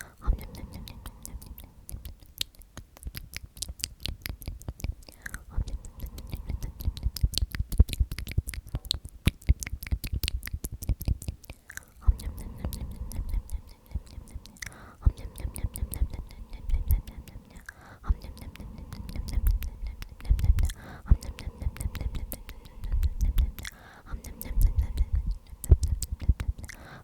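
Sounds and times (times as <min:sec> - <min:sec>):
person whispering: 0:00.0 - 0:02.7, 0:04.3 - 0:07.9, 0:10.9 - 0:27.0
wet mouth clicks and smacks: 0:00.0 - 0:27.0.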